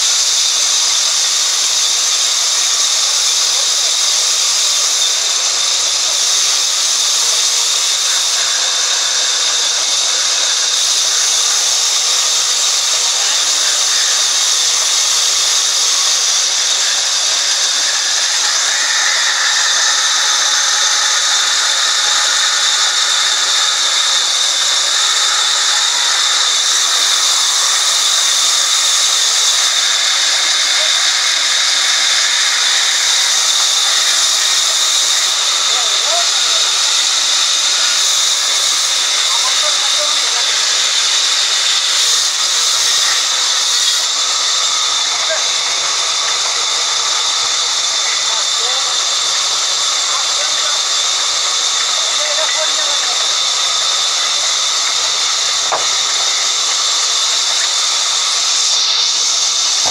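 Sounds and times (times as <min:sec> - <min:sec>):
band saw blade cutting log: 0:01.1 - 0:59.9.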